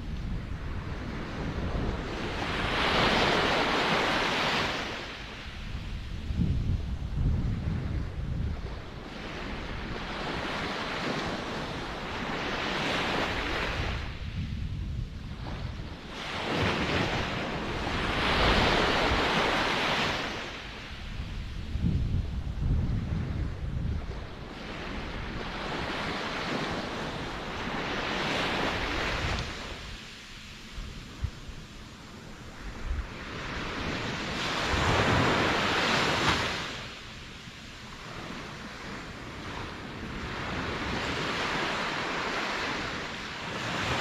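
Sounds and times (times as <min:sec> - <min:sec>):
wind on microphone: 0:00.0 - 0:37.0
surf rumble: 0:00.0 - 0:44.0
ocean waves breaking: 0:00.4 - 0:06.3, 0:08.5 - 0:14.3, 0:15.3 - 0:21.8, 0:22.5 - 0:44.0.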